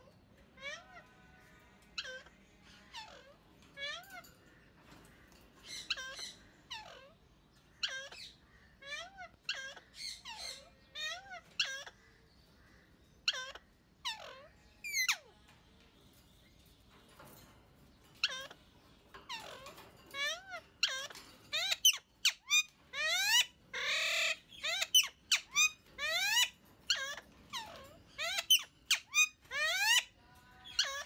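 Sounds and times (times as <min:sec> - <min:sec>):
parakeets calling harshly: 0:00.4 - 0:15.4, 0:18.0 - 0:31.0.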